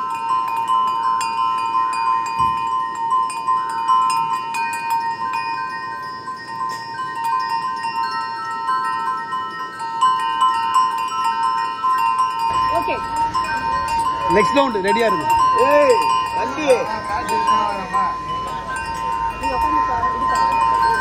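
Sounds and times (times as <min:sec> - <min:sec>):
chimes ringing: 0:00.0 - 0:21.0
low sustained chime tone: 0:00.0 - 0:21.0.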